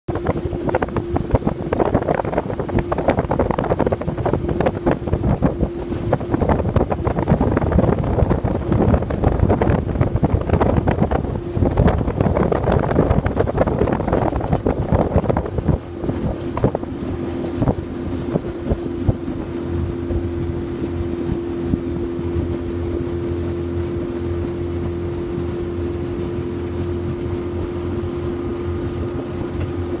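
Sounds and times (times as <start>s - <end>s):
motorboat engine running: 0.0s - 30.0s
wind buffeting microphone: 0.1s - 30.0s.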